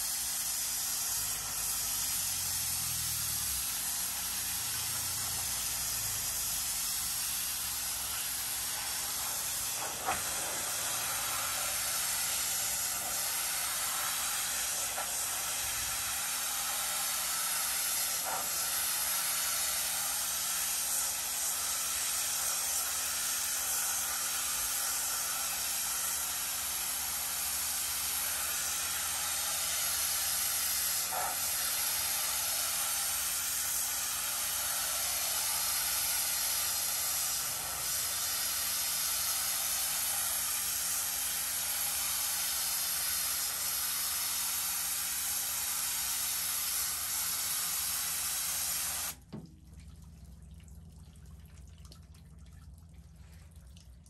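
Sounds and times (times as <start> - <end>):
pressure washer water hiss: 0.0 - 49.3.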